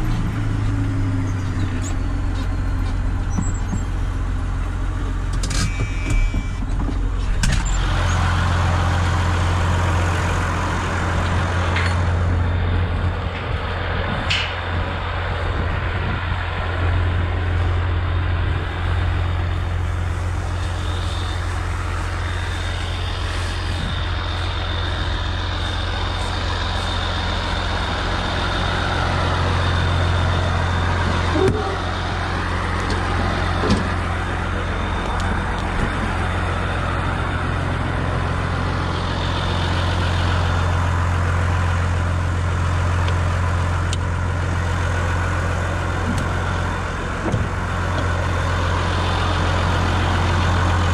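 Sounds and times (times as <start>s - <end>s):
diesel engine running: 0.0s - 50.9s
thin high whine: 5.3s - 50.9s.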